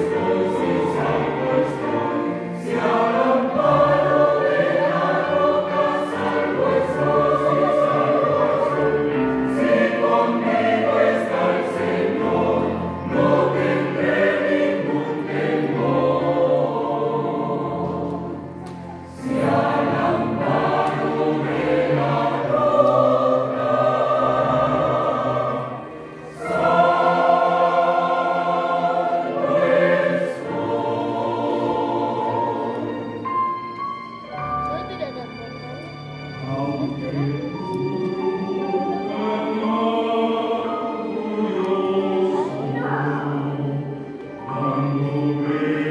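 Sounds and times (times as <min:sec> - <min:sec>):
choir singing a hymn: 0:00.0 - 0:34.4, 0:35.9 - 0:45.9
piano accompaniment: 0:00.0 - 0:45.9.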